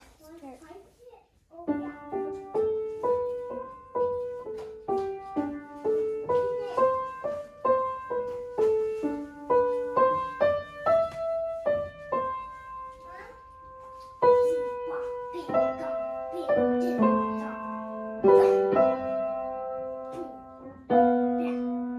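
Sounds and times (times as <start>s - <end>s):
slow piano melody: 1.6s - 21.9s.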